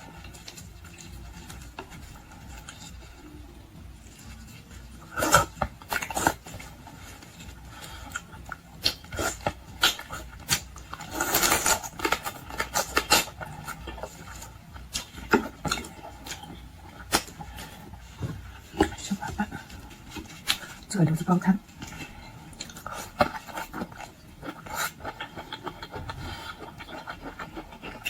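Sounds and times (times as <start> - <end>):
shellfish cracking and chewing: 0.0 - 28.0.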